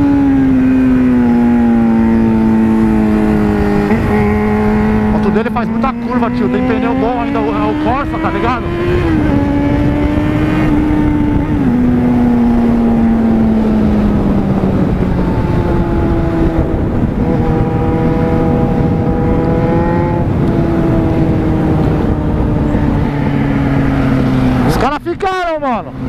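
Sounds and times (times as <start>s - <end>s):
motorcycle engine at high revs: 0.0s - 25.0s
wind rushing over microphone: 0.0s - 26.0s.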